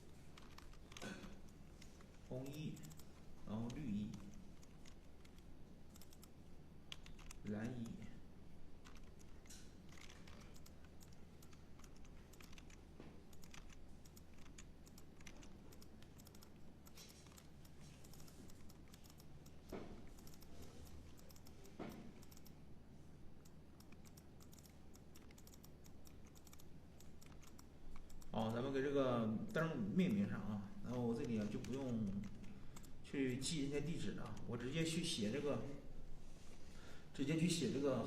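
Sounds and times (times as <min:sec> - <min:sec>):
faint keyboard typing: 0:00.0 - 0:38.0.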